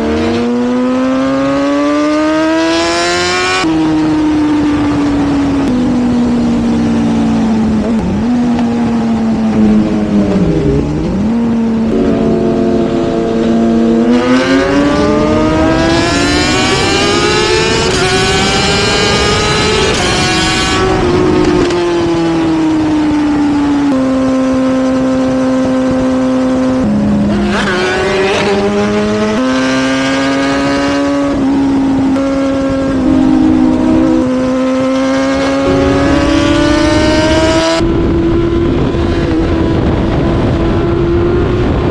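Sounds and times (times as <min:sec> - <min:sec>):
motorcycle engine accelerating: 0:00.0 - 0:41.9
wind and road noise: 0:00.0 - 0:41.9.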